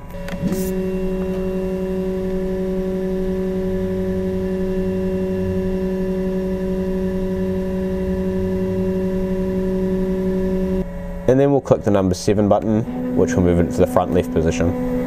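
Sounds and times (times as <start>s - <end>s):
stepper motor whining: 0.0s - 15.0s.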